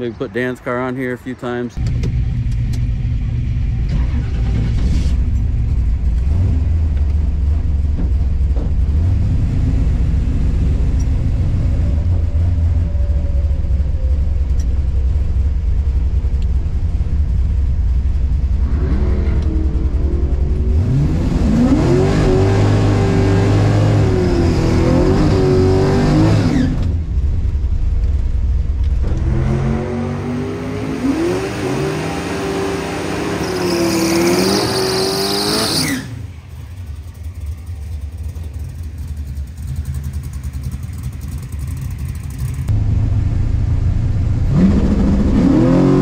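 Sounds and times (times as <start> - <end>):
car engine idling and revving: 0.0 - 46.0.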